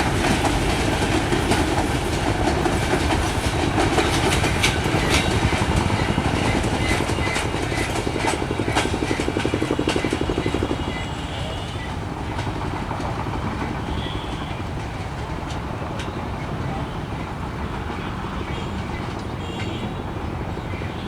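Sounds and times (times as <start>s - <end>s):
freight train rolling past: 0.0s - 20.9s.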